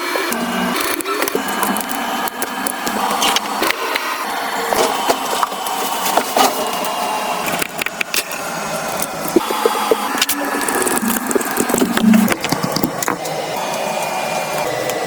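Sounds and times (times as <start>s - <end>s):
crackling and scraping: 0.0s - 13.8s.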